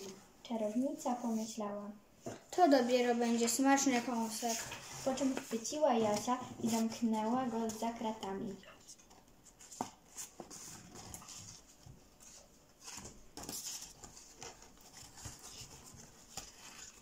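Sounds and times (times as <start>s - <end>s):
paper puppets rustling: 0.0s - 17.0s.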